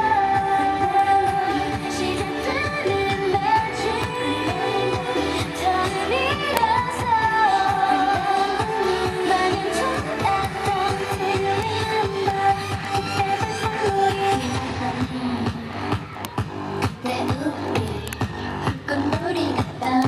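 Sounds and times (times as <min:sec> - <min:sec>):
girl group singing: 0:00.0 - 0:16.0, 0:16.8 - 0:20.0
dance-pop backing track: 0:00.0 - 0:20.0.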